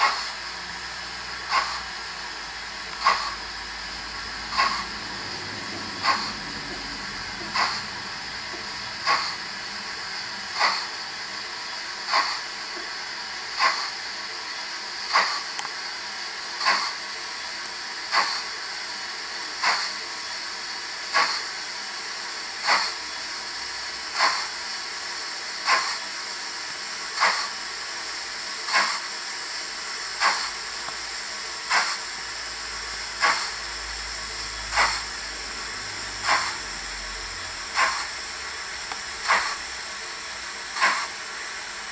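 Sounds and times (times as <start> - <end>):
steam hiss: 0.0 - 41.9
steam locomotive chuffs: 0.0 - 41.9.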